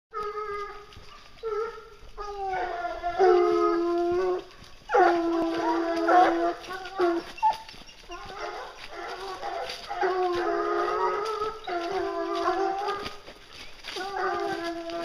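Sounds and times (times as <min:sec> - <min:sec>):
hounds baying: 0:00.1 - 0:15.0.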